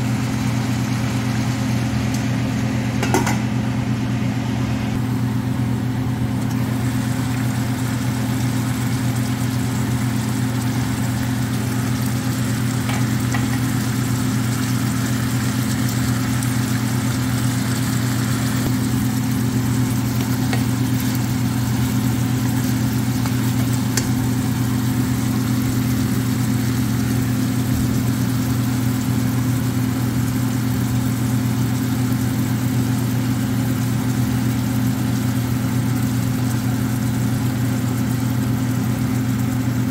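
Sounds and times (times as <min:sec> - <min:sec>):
low mechanical hum: 0:00.0 - 0:39.9
food sizzling in a pan: 0:06.5 - 0:38.5.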